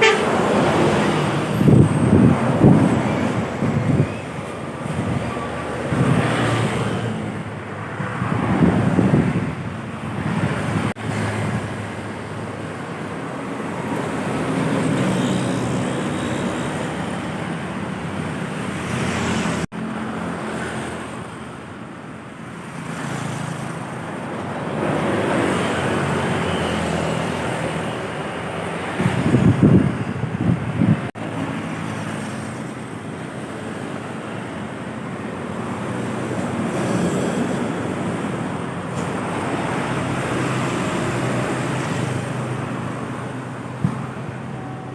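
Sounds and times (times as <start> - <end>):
trucks and buses driving past: 0.0 - 44.9.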